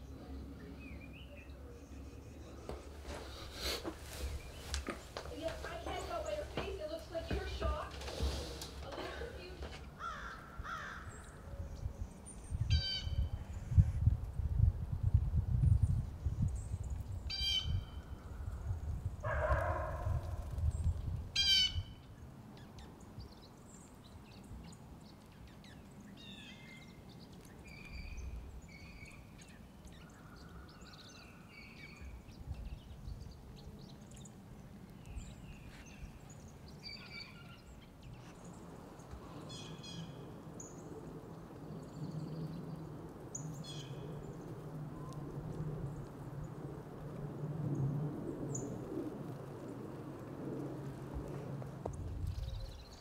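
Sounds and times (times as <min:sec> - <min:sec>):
songbirds chirping and calling: 0:00.0 - 0:13.9, 0:15.8 - 0:45.2.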